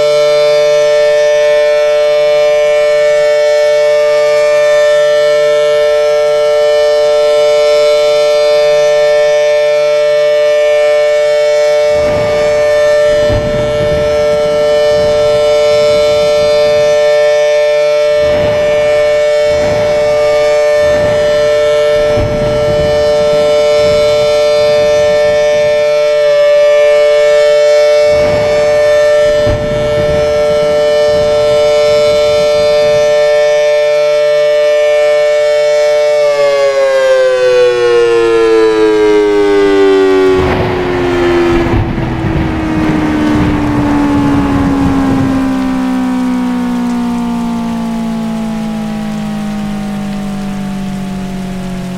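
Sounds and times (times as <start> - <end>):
air raid siren steady tone: 0.0 - 51.9
low rumbling noise: 0.7 - 33.8, 36.5 - 51.9.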